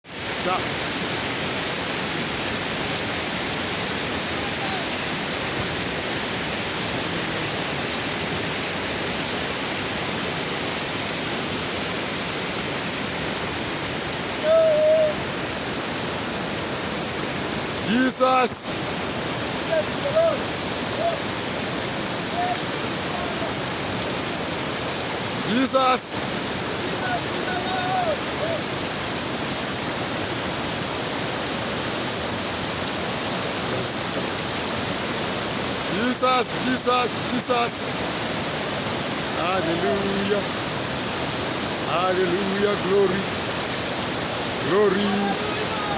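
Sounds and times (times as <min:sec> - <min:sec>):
waterfall rushing: 0:00.1 - 0:45.9.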